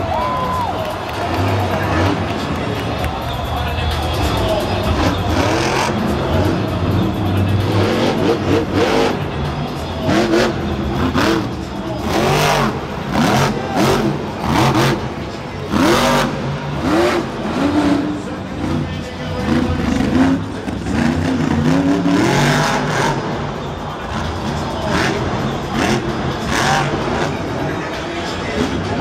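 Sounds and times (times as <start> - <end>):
truck engine revving: 0.8 - 29.0.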